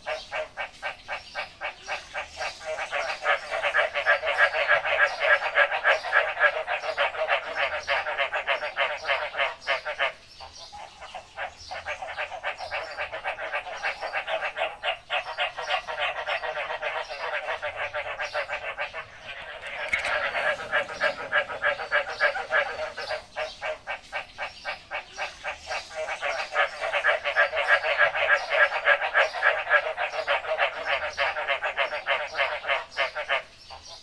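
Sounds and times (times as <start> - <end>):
frogs calling in chorus: 0.0 - 34.0.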